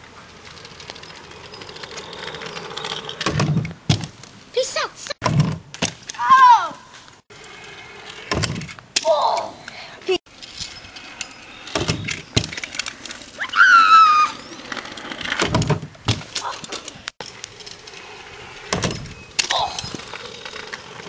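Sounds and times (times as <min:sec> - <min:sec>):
kick scooters rolling on asphalt: 0:00.0 - 0:05.1, 0:06.2 - 0:21.0.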